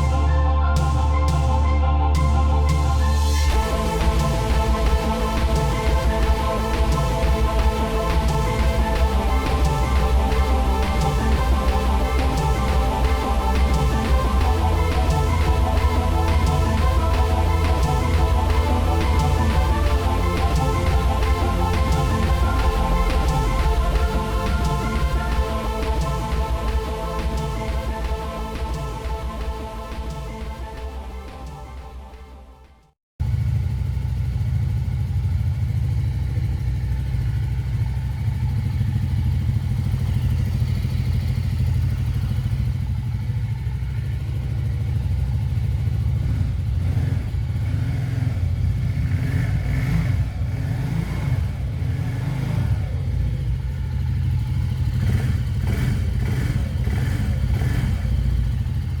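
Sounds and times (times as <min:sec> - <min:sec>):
quad engine idling: 0:00.0 - 0:31.6, 0:33.2 - 0:59.0.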